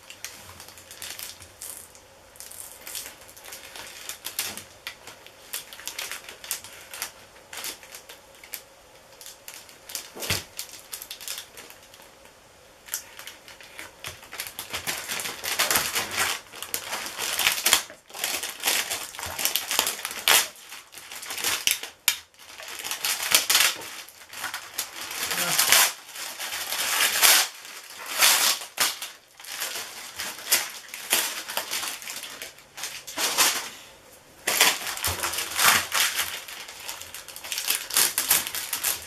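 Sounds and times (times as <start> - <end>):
plastic film crinkling: 0.0 - 12.2, 12.8 - 33.8, 34.4 - 39.0.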